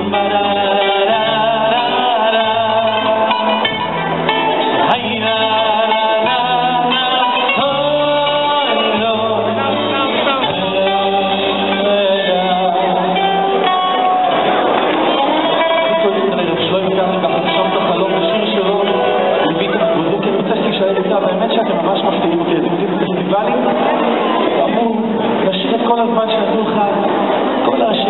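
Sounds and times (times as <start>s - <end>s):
person singing long notes: 0.0s - 23.8s
bass line: 0.0s - 27.7s
plucked strings: 0.0s - 28.0s.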